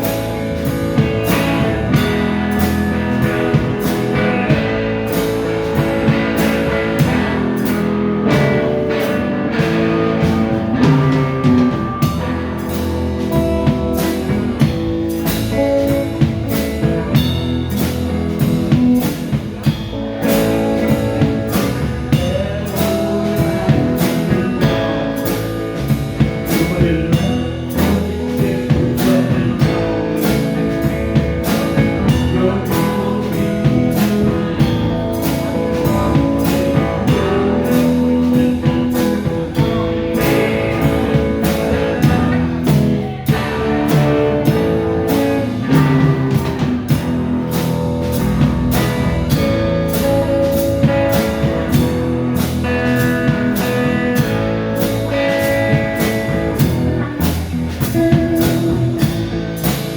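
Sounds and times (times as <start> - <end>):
drum kit steady beat: 0.0 - 59.9
electric guitar: 0.0 - 59.9.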